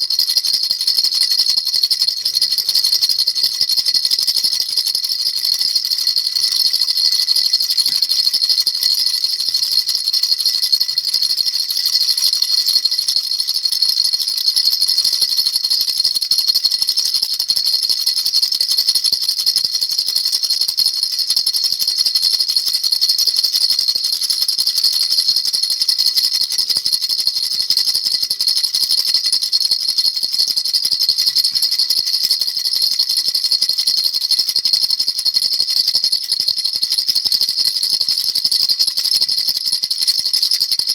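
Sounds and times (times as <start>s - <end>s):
baby rattle shaken: 0.0s - 15.8s, 19.4s - 34.3s, 37.1s - 40.9s.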